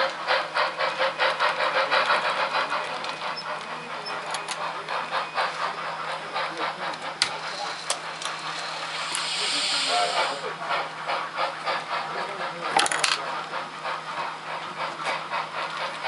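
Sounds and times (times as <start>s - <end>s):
model steam locomotive chuffing: 0.0s - 16.0s.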